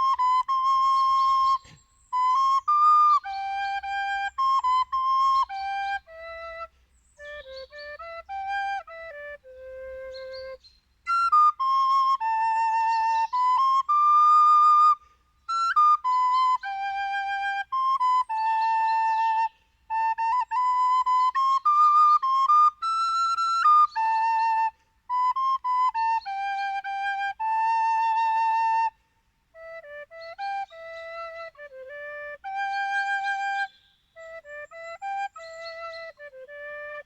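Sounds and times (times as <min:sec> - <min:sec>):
solo flute melody: 0:00.0 - 0:37.0.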